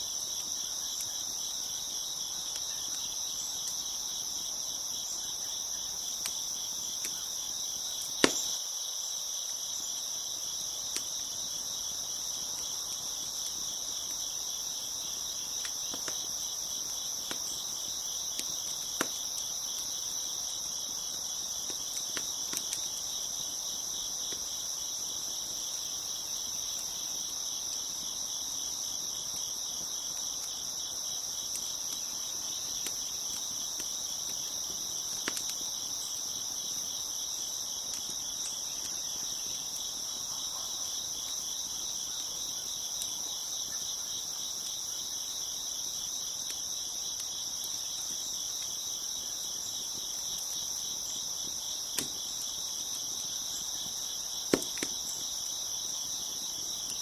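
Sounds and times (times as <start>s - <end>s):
crickets chirping: 0.0s - 57.0s
wood fire popping and crackling: 0.1s - 8.8s, 9.4s - 57.0s.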